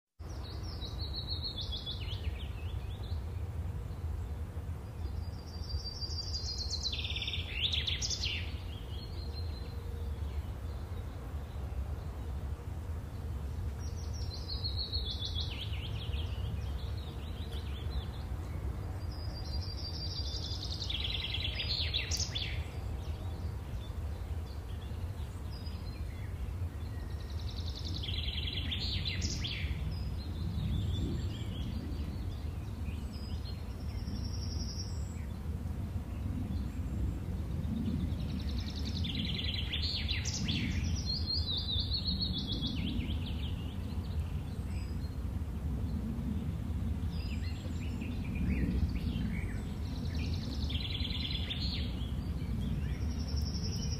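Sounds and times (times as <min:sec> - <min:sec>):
birds chirping: 0:00.2 - 0:35.5, 0:36.2 - 0:53.9
steady low rumble: 0:02.0 - 0:53.9.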